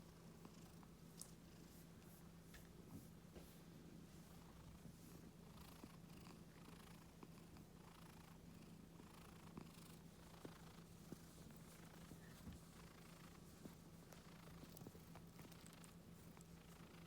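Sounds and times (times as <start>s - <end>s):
cat purring: 0.0s - 2.2s, 3.9s - 17.0s.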